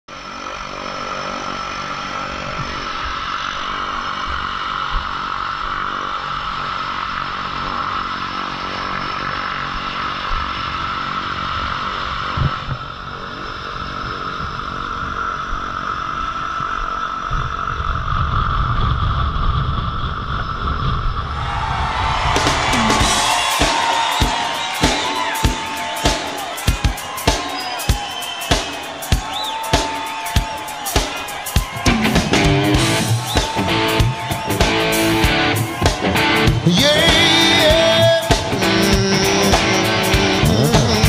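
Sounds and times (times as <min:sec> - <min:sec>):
aircraft engine whining drone: 0:00.0 - 0:41.0.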